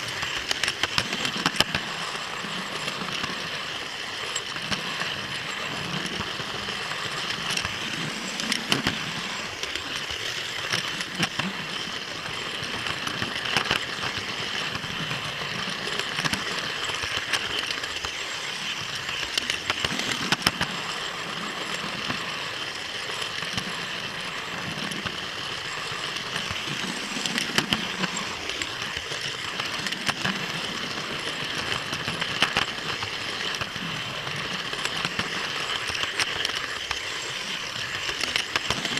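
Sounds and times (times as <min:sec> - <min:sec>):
model train motor whirring: 0:00.0 - 0:38.9
wheels clicking on rail joints: 0:00.0 - 0:38.9.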